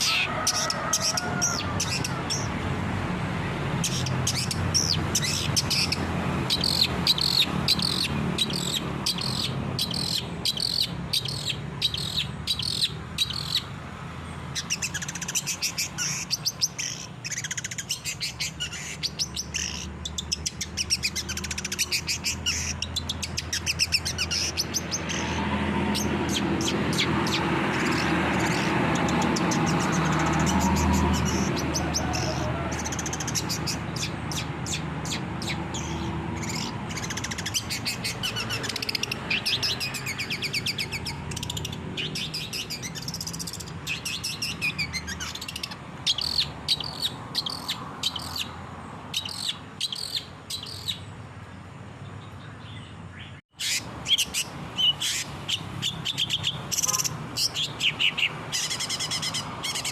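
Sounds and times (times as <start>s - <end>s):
bird chirping and trilling: 0.0s - 2.6s, 3.6s - 51.2s, 52.0s - 59.9s.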